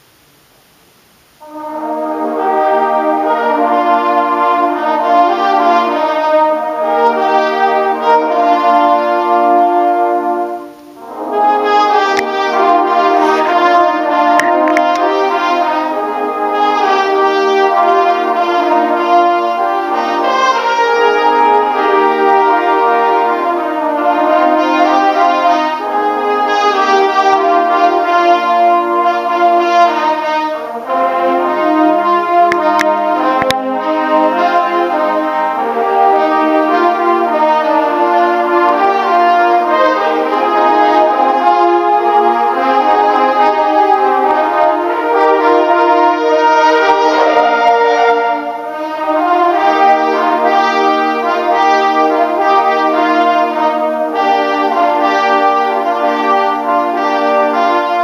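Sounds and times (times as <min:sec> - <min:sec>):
brass ensemble playing chords: 0:01.3 - 0:58.0.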